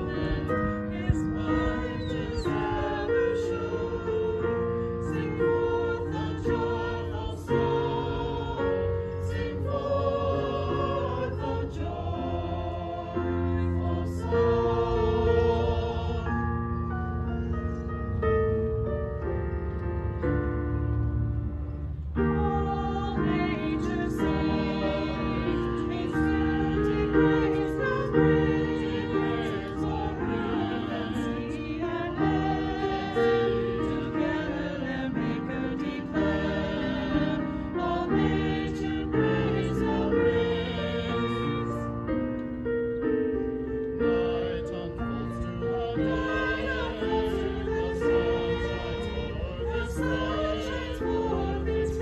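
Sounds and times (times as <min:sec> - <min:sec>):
mixed choir singing: 0:00.0 - 0:17.2, 0:22.1 - 0:42.2, 0:43.6 - 0:52.0
electric keyboard: 0:00.0 - 0:52.0.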